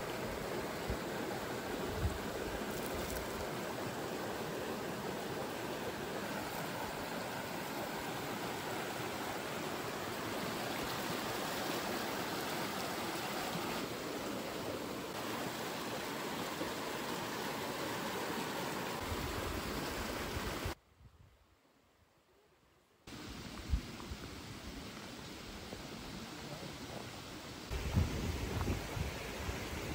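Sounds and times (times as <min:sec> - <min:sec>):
flowing stream: 0:00.0 - 0:20.8, 0:23.1 - 0:29.9.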